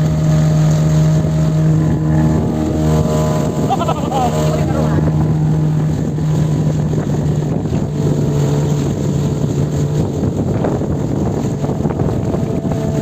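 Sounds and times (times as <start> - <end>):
motorboat engine humming: 0.0 - 13.0
wind rushing: 0.0 - 13.0.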